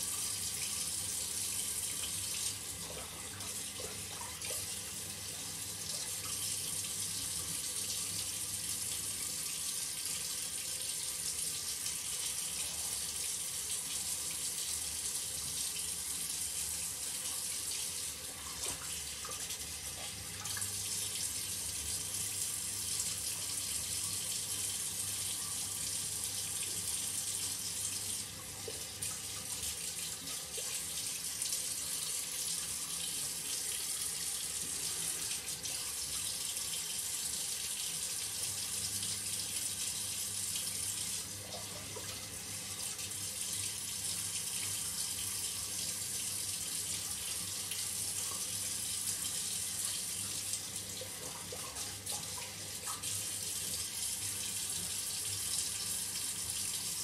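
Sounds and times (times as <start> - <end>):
shower water running: 0.0 - 57.0.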